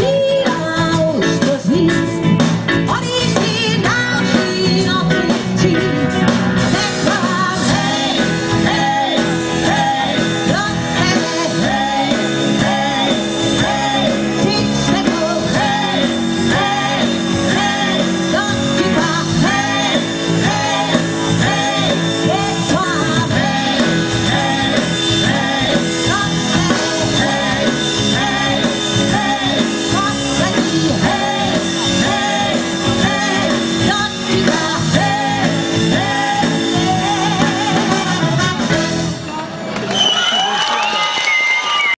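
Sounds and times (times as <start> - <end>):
woman singing lead: 0.0 - 39.4
electric guitar: 0.0 - 40.0
drums: 0.0 - 41.9
keyboards: 0.0 - 41.9.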